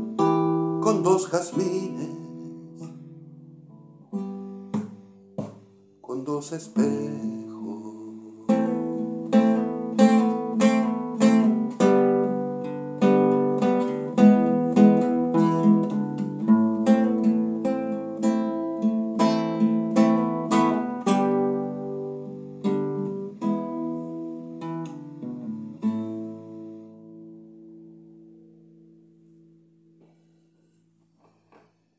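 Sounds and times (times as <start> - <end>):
classical guitar: 0.0 - 31.9.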